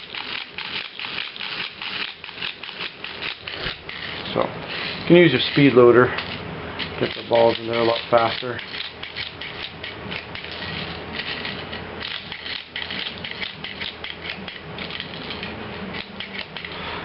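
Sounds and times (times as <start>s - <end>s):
plastic pellets clicking and rattling: 0.0s - 16.8s.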